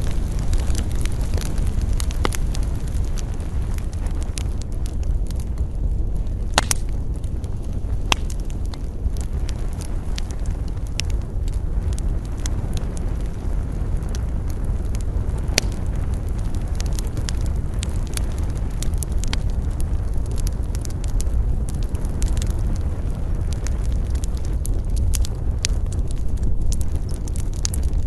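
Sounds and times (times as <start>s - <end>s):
campfire crackling and popping: 0.0s - 28.0s
low rumble: 0.0s - 28.0s.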